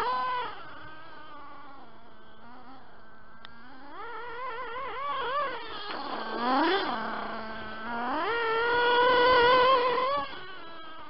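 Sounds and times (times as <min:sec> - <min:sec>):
model car nitro engine revving: 0:00.0 - 0:11.0.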